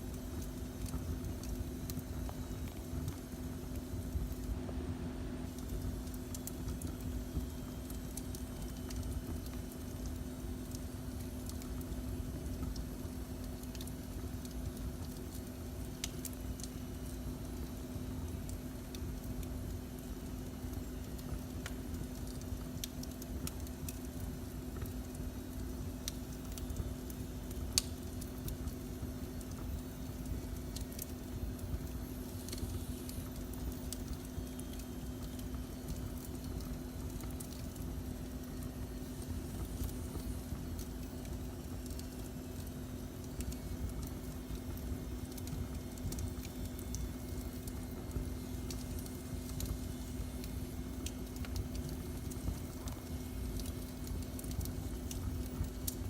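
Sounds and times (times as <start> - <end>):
wood fire crackling and popping: 0.0 - 4.8, 5.4 - 56.0
low rumble and hum: 0.0 - 56.0.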